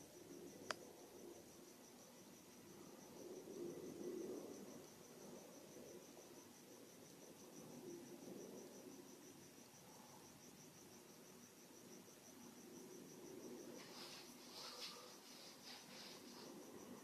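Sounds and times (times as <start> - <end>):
cricket chirping: 0.0 - 17.0
low room noise: 0.0 - 17.0.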